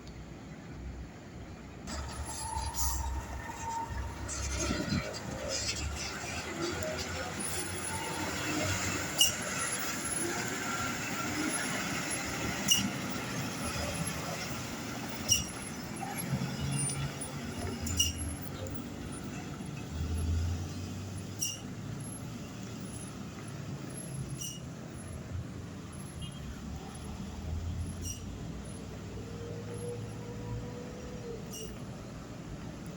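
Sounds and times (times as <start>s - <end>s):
diesel trucks passing: 0.0s - 32.9s
traffic hiss: 0.0s - 32.9s.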